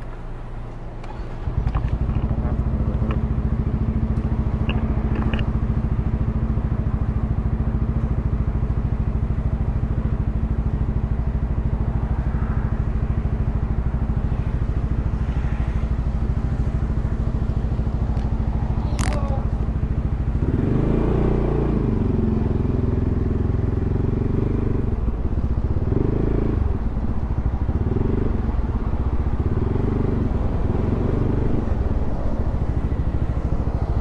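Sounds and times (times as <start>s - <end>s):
scooter engine idling: 0.0s - 34.0s.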